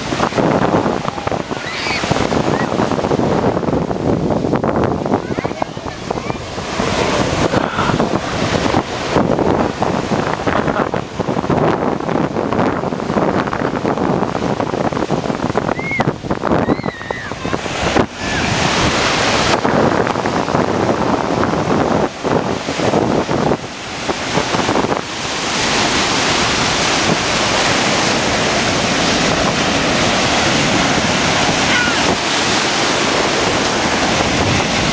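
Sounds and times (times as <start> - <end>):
ocean surf breaking: 0.0 - 34.9
wind buffeting microphone: 0.0 - 34.9.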